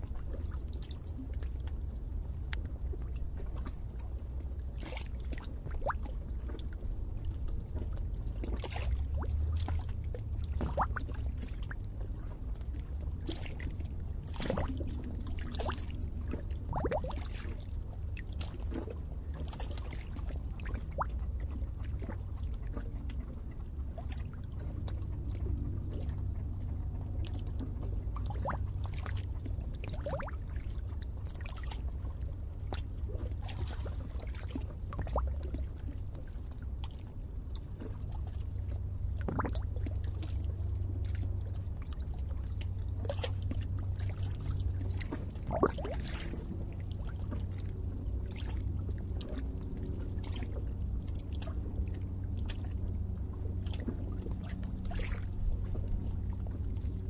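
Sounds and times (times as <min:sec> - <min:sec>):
low water rumble: 0:00.0 - 0:57.0
water plopping and gurgling: 0:00.0 - 0:57.0.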